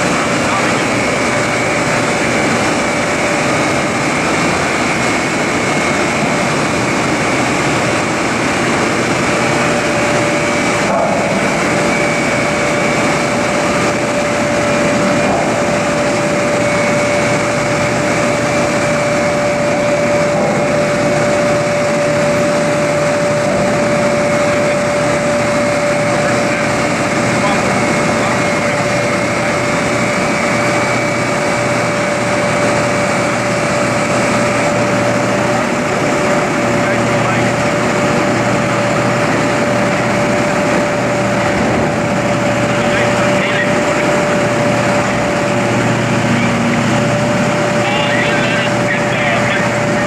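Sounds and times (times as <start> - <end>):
constant mechanical whine: 0.0 - 50.0
crane machinery running: 0.0 - 50.0.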